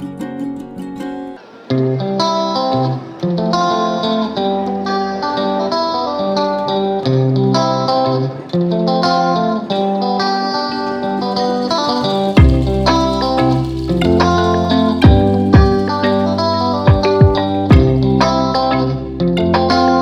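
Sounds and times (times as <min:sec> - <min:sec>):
plucked guitar melody: 0:00.0 - 0:20.0.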